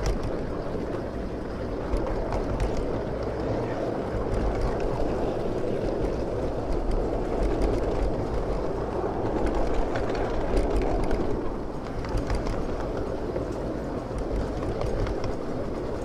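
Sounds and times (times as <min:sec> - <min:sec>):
small wheels rumbling on rails: 0:00.0 - 0:16.0.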